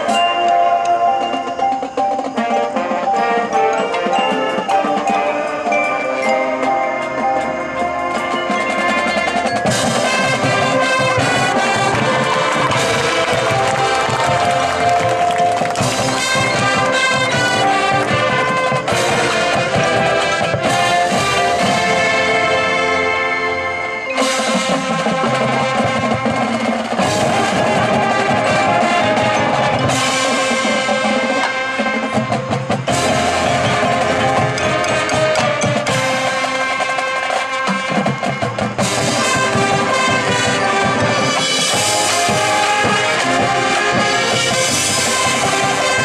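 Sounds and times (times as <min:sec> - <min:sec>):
marching band playing: 0:00.0 - 0:46.0.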